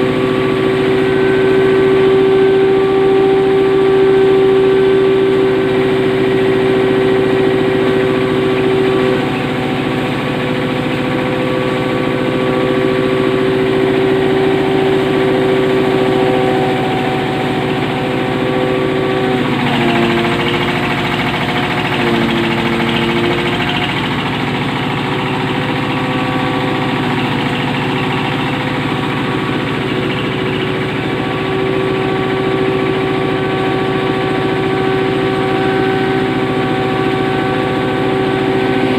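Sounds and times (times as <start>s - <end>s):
hammer mill humming: 0.0s - 38.9s.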